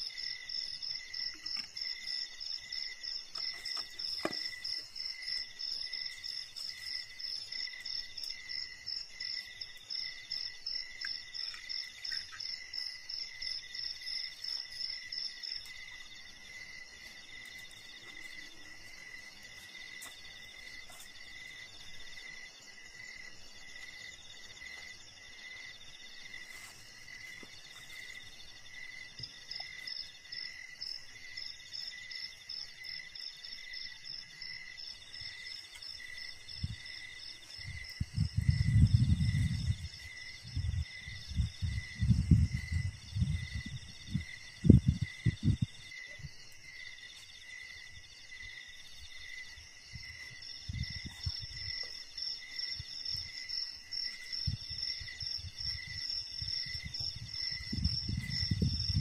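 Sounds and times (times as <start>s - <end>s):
insect slow steady pulse: 0.0s - 59.0s.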